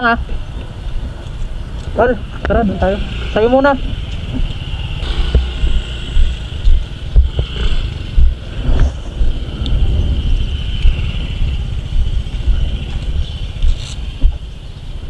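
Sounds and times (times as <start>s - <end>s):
motor scooter engines: 0.0s - 15.0s
wind rumble on microphone: 0.0s - 15.0s.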